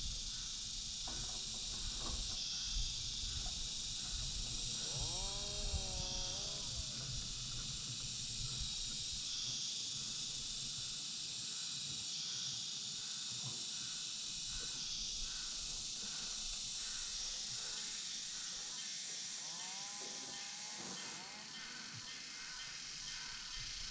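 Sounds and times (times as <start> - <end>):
shrill insects chorus: 0.0 - 23.9.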